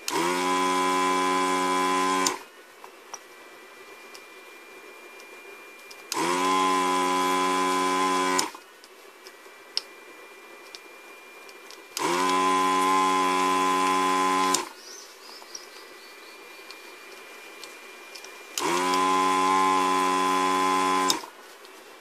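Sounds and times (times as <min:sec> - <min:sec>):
desoldering pump buzzing hum: 0:00.0 - 0:22.0.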